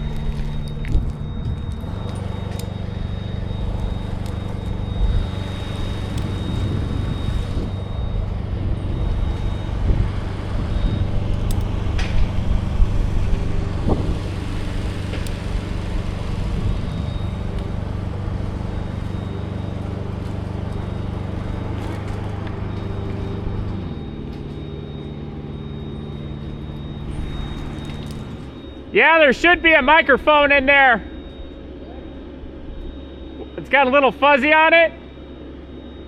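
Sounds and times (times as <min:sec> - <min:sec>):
heavy machine engine running: 0:00.0 - 0:36.0
thin high whine: 0:00.0 - 0:36.0.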